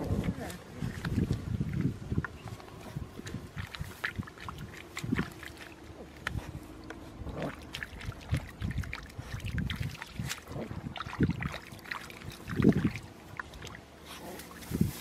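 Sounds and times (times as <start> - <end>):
dogs splashing in muddy puddle: 0.0 - 15.0
rustling grass: 0.2 - 15.0.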